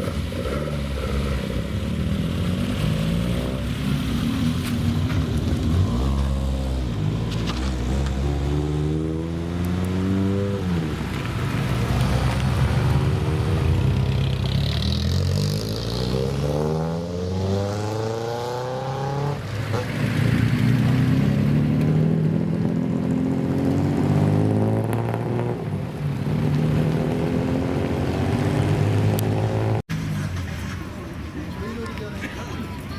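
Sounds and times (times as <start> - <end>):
car engine revving: 0.0 - 30.6.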